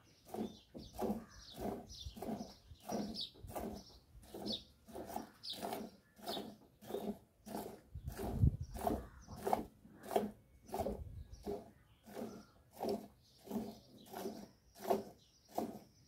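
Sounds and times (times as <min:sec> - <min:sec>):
milk squirting into a bucket: 0:00.3 - 0:15.9.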